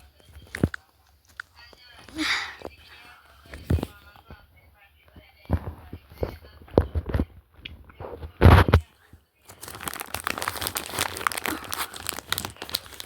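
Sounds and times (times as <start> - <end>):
close-up crinkling and crackling: 0.0 - 4.5, 5.1 - 13.0.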